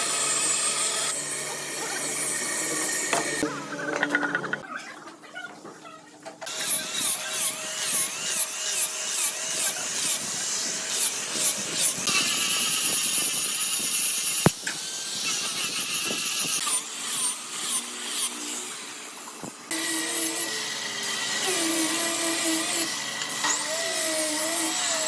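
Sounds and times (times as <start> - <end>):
power tool cutting wood: 0.0 - 4.3, 6.5 - 25.0.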